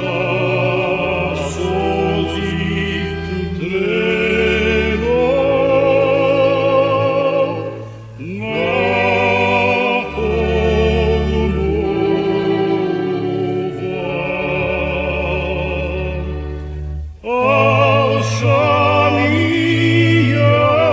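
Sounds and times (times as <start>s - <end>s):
voices singing slow song: 0.0s - 20.9s.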